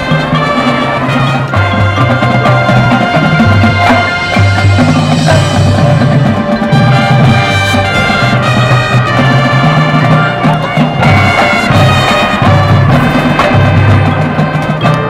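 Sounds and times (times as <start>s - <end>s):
drums and percussion: 0.0s - 15.0s
sustained low brass notes: 0.0s - 15.0s
trumpets and trombones: 0.0s - 15.0s.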